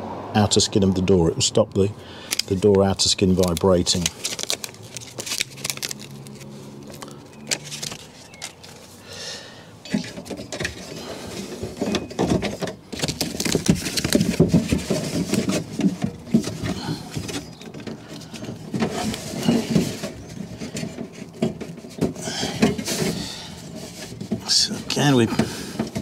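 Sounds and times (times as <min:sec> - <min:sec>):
foam membrane rustling and squeaking: 0:02.3 - 0:26.0.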